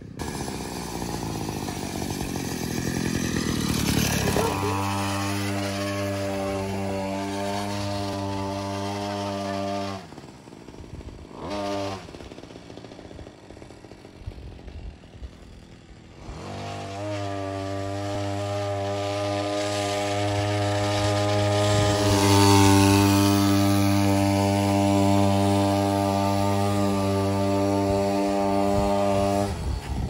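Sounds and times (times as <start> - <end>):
small scooter engine revving: 0.0 - 30.0.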